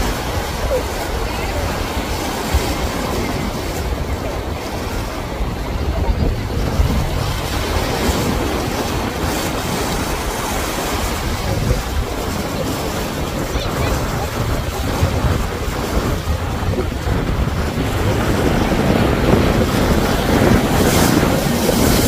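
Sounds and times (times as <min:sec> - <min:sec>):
powerboat running at speed: 0:00.0 - 0:22.0
surf and choppy water: 0:00.0 - 0:22.0
wind buffeting microphone: 0:00.0 - 0:22.0.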